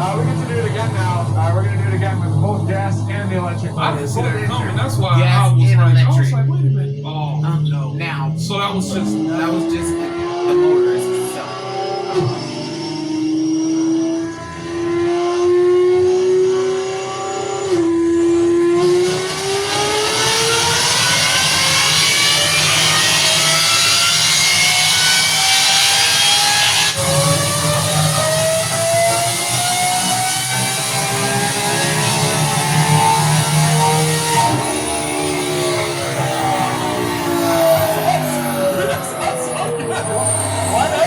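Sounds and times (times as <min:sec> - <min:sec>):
car engine at full throttle: 0:00.0 - 0:41.0.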